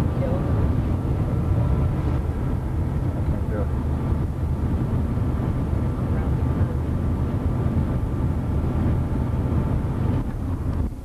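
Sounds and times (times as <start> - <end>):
car road noise from inside: 0.0 - 11.0.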